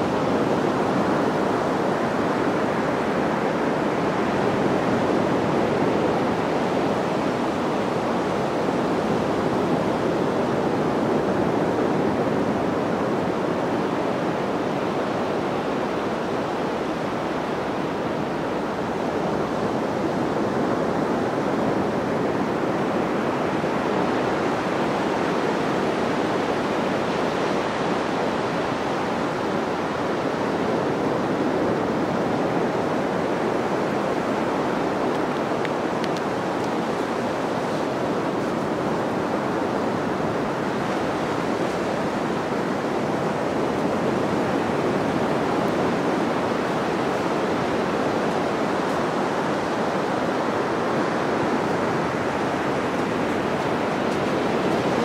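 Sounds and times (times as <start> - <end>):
sea surf breaking: 0.0 - 55.0.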